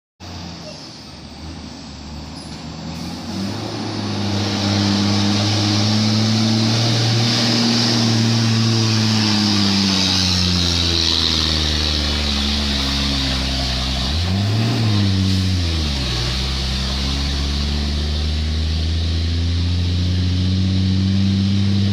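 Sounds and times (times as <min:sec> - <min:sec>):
diesel truck engine pulling: 0:00.2 - 0:21.9.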